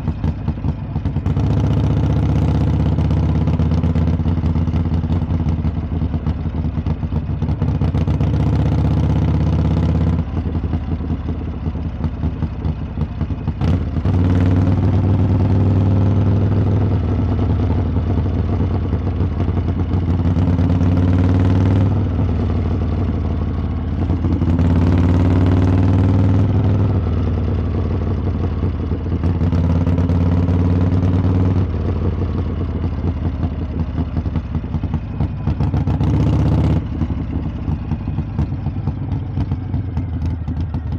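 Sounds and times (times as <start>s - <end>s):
motorcycle exhaust revving: 0.0s - 40.9s.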